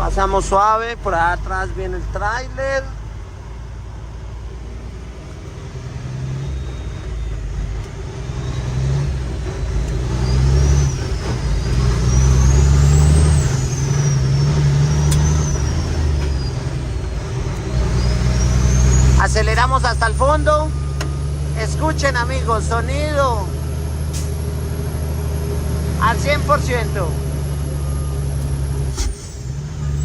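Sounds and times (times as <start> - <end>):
truck diesel engine pulling hard: 0.0 - 30.0.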